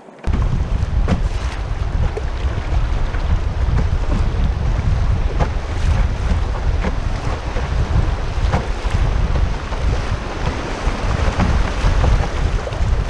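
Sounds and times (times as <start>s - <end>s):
river water rushing and splashing: 0.0s - 13.0s
wind buffeting microphone: 0.0s - 13.0s.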